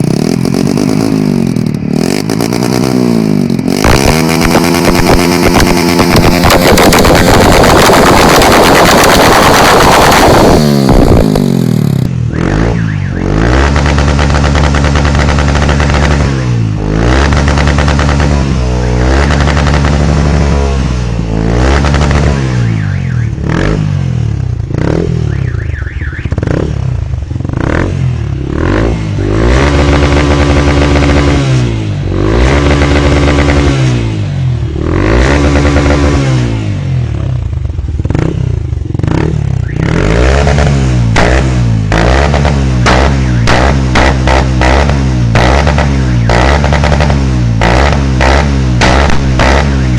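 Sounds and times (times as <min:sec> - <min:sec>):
motorcycle engine revving to limiter: 0:00.0 - 0:49.9.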